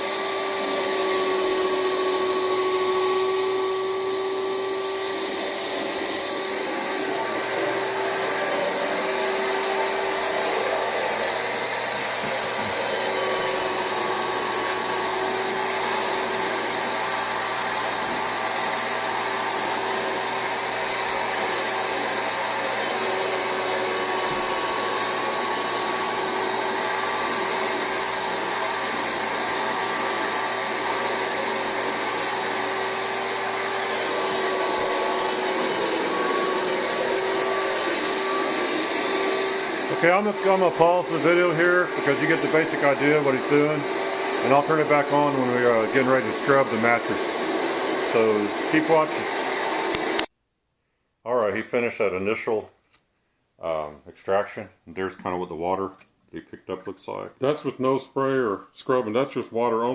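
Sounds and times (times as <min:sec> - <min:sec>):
carpet extractor vacuum whining: 0:00.0 - 0:50.3
water spraying and sucking: 0:00.0 - 0:50.3.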